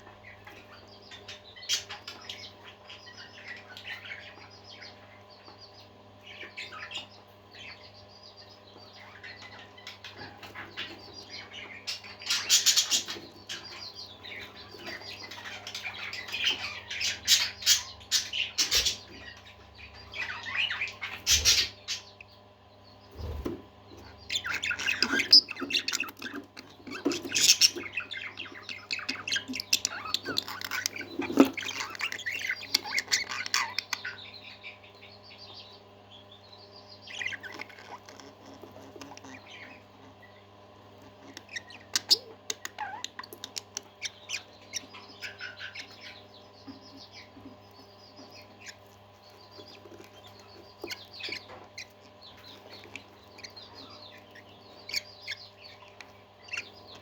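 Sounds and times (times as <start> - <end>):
parakeets chattering: 0.0 - 57.0.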